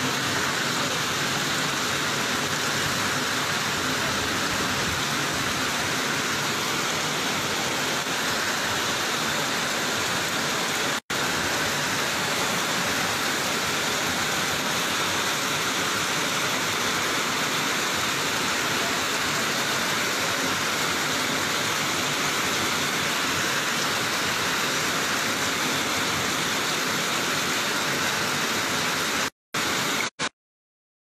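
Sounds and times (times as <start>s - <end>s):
heavy rain falling: 0.0s - 30.1s.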